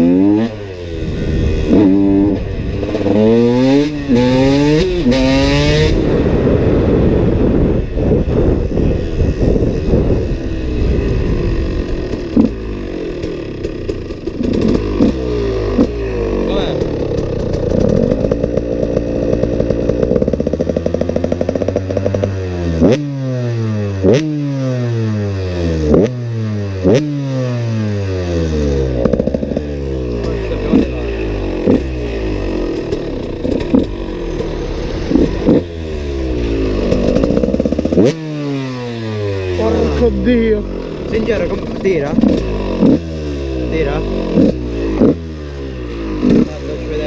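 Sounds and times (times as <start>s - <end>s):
motocross engine revving: 0.0s - 47.0s.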